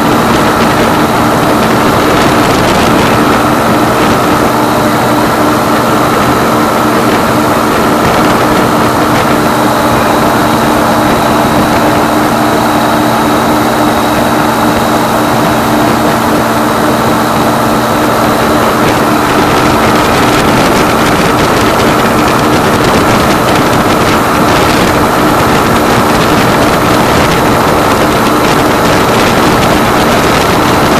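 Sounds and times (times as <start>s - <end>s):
engine and propeller drone: 0.0s - 30.9s
rush of air: 0.0s - 30.9s.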